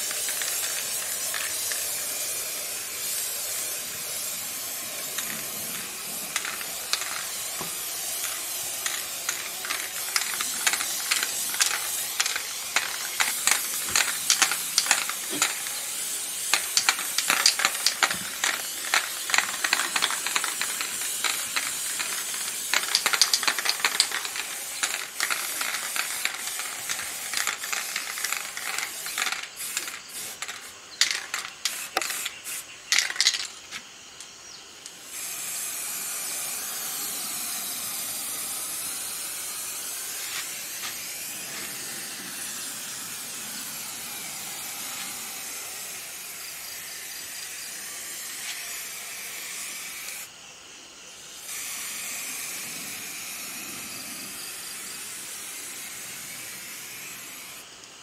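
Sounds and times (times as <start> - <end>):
spray-paint can hissing: 0.0 - 33.9, 35.0 - 50.4, 51.2 - 58.0
spray can clicks and rattles: 0.0 - 50.3.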